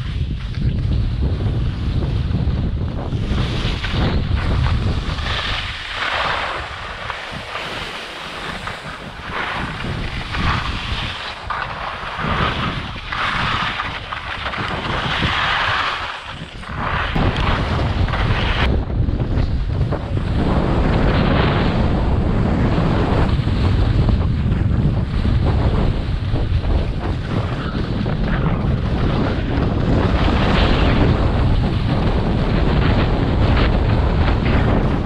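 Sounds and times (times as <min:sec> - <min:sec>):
skis scraping over snow: 0:00.0 - 0:35.0
wind buffeting microphone: 0:00.0 - 0:35.0.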